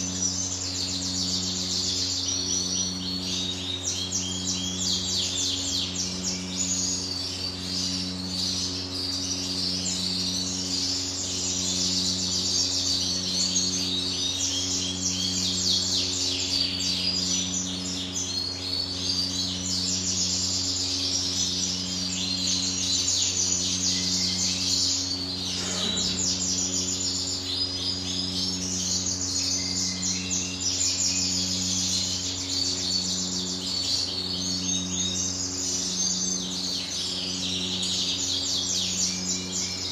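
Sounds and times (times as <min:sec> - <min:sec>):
caged songbirds chirping: 0:00.0 - 0:39.9
pulsing electrical hum: 0:00.0 - 0:39.9.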